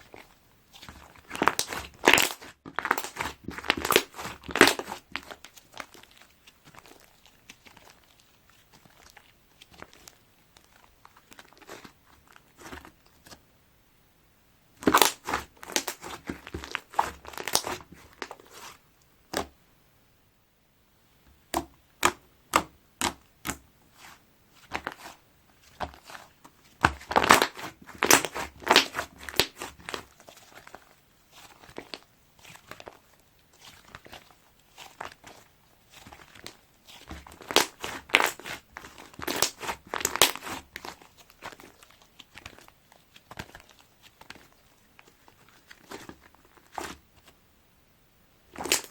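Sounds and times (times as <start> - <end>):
slime crackling and popping: 0.0 - 13.3, 14.8 - 19.5, 21.5 - 47.0, 48.5 - 48.9.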